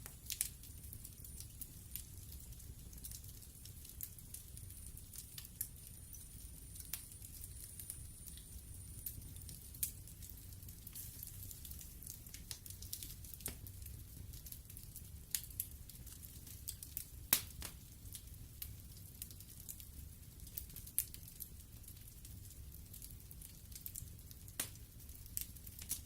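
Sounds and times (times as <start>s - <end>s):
low rumble and hiss of fire: 0.0s - 26.0s
wood fire crackling and popping: 0.0s - 26.0s.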